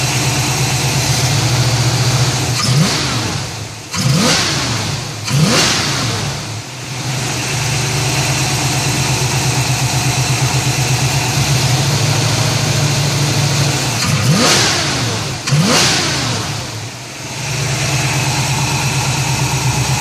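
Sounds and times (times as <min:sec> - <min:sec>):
engine idling and revving: 0:00.0 - 0:20.0.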